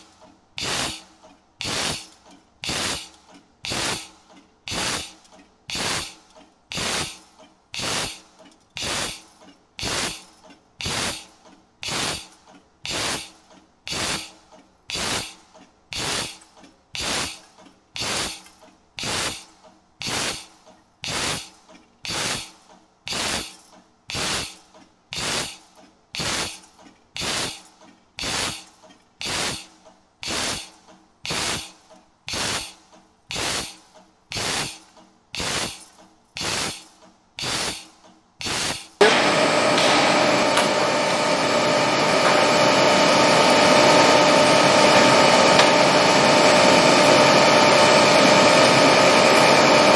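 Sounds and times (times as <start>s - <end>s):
hydraulic punch hissing bursts: 0.6s - 7.2s, 7.8s - 8.2s, 8.8s - 16.4s, 17.0s - 17.4s, 18.0s - 25.6s, 26.2s - 26.6s, 27.2s - 34.8s, 35.4s - 46.5s.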